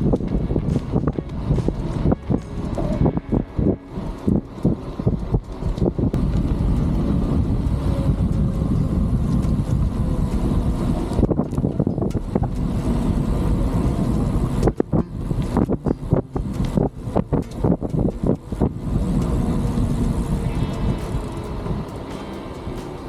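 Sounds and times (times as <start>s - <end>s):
bicycle rumbling on rough trail: 0.0s - 23.0s
wind over microphone: 0.0s - 23.0s.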